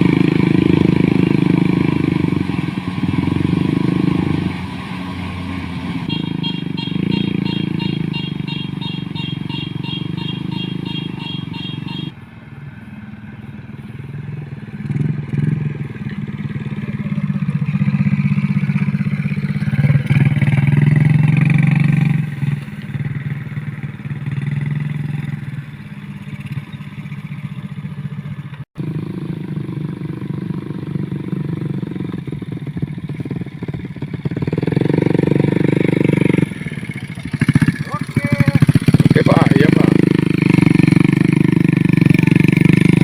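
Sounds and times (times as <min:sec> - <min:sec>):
motorcycle engine revving: 0:00.0 - 0:12.2, 0:13.6 - 0:43.0.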